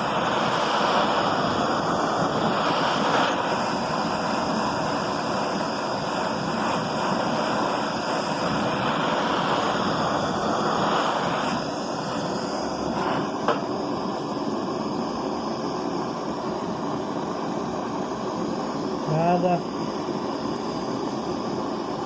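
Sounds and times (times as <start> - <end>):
hand torch flame burning: 0.0 - 22.0.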